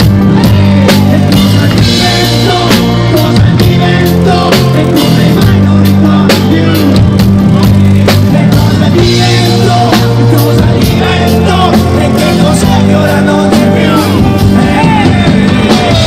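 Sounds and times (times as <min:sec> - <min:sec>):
live rock band playing: 0:00.0 - 0:16.0
man singing: 0:00.0 - 0:16.0.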